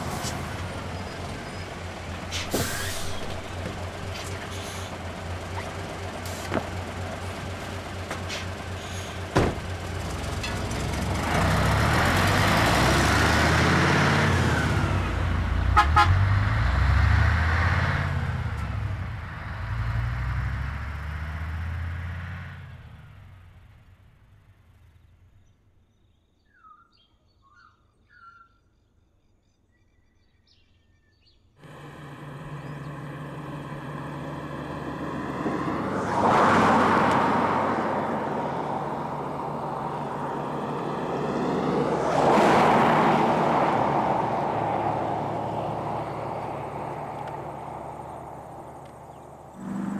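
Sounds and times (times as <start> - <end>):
heavy truck driving past: 0.0 - 23.7, 31.6 - 49.9
vehicle engine running: 0.0 - 25.4, 31.6 - 49.9.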